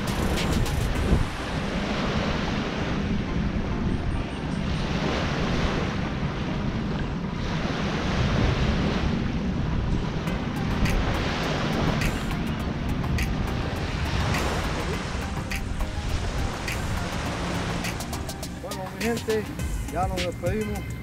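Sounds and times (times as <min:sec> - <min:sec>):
small waves washing on sand: 0:00.0 - 0:03.4, 0:04.9 - 0:20.4
wind rumble on microphone: 0:00.0 - 0:18.7.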